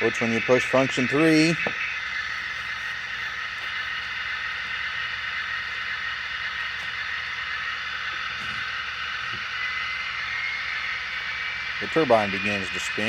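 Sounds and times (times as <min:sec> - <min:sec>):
diesel engine idling: 0:00.0 - 0:13.0
high turbine hiss: 0:00.0 - 0:13.0.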